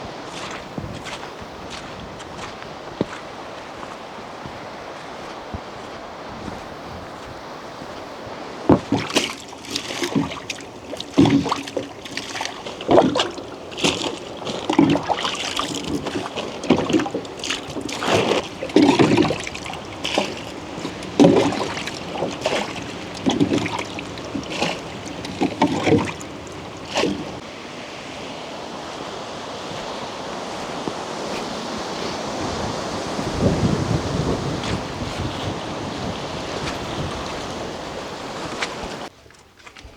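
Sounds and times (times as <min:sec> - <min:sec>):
lapping water: 0:00.0 - 0:39.9
oar strokes splashing: 0:00.0 - 0:39.9
wind: 0:00.0 - 0:39.9.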